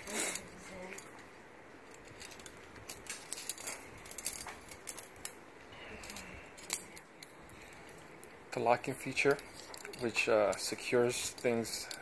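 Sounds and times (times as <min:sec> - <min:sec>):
metal carabiners clinking: 0:00.0 - 0:12.0.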